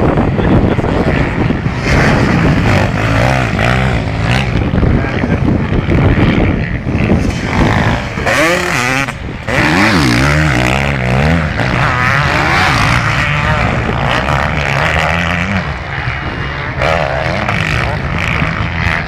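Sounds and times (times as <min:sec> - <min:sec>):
motocross bike engines revving: 0:00.0 - 0:19.0.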